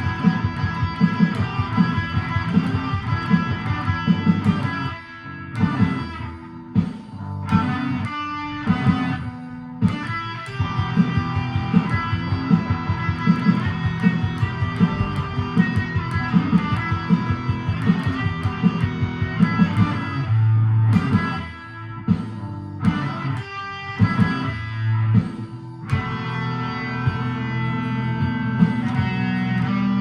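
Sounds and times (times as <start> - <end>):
backing track: 0.0 - 30.0
electric guitar picking: 0.0 - 30.0.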